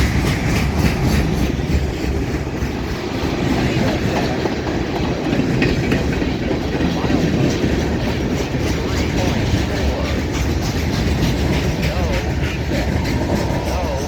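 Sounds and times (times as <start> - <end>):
train rumble: 0.0 - 14.0
train wheels clacking over rails: 0.0 - 14.0.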